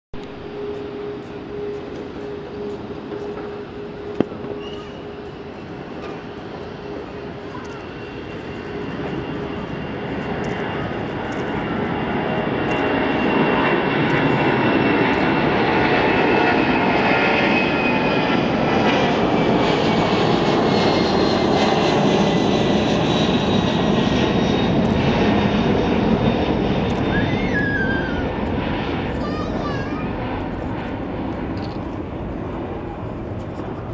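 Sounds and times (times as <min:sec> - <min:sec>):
jet engines roaring: 0:00.2 - 0:33.9.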